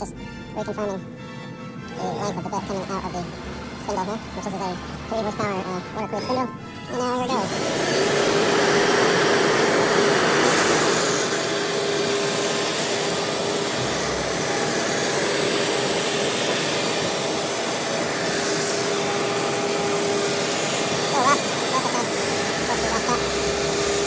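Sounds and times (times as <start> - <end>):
cnc router carving foam: 1.9 - 24.0.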